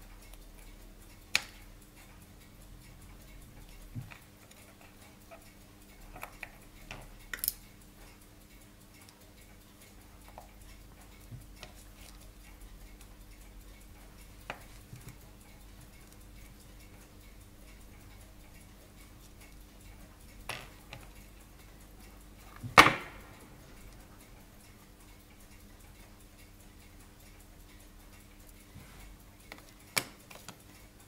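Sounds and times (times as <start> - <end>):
tweezers clicking on watch movement: 0.0 - 31.0.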